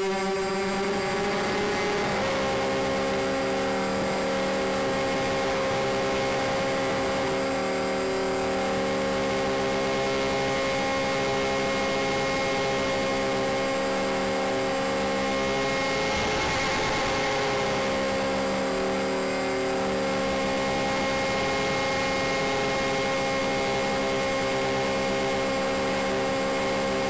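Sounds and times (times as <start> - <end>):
model aircraft motors humming: 0.0 - 27.0.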